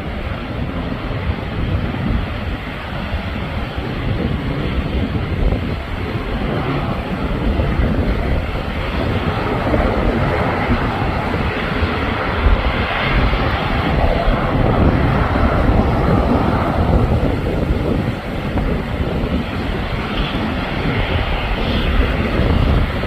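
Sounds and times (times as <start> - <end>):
jet airliner taking off: 0.0 - 23.0.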